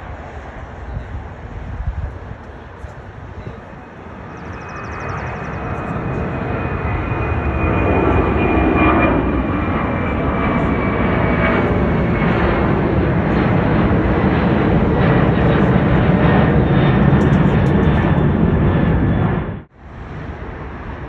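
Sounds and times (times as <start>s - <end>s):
jet airliner passing: 0.0s - 21.0s.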